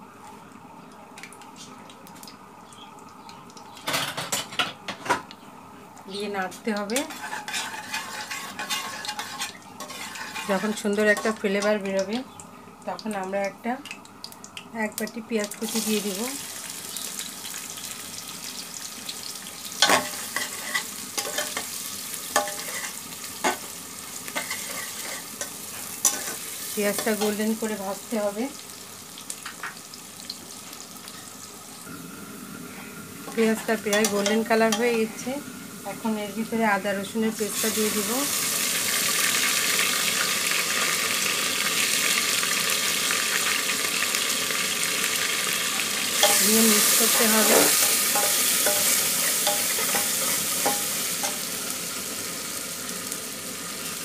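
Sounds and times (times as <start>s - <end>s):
onions sizzling in oil: 1.5s - 54.0s.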